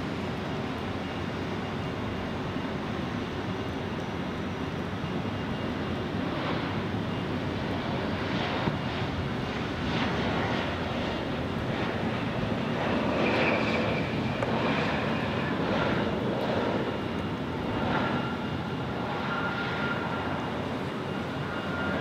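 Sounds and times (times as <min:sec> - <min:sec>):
faint high whine: 0:00.0 - 0:22.0
jet engines landing: 0:00.0 - 0:22.0.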